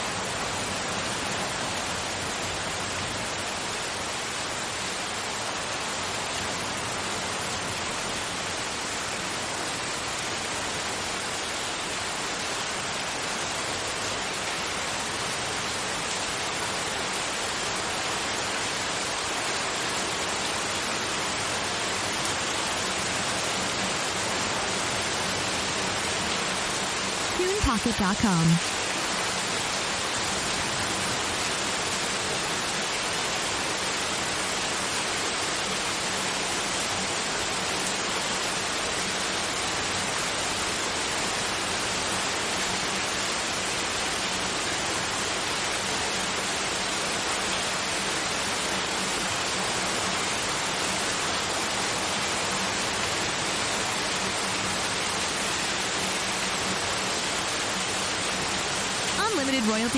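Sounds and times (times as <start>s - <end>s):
synthetic white noise hiss: 0.0s - 59.9s.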